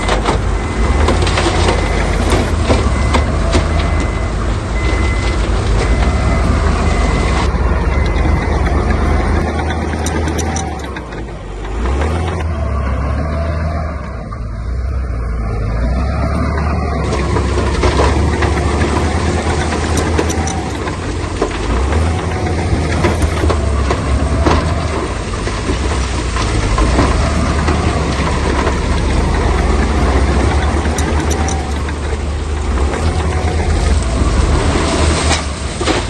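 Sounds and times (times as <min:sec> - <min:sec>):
knocks and clatter: 0:00.0 - 0:15.0, 0:15.6 - 0:36.0
heavy diesel engine running: 0:00.0 - 0:36.0.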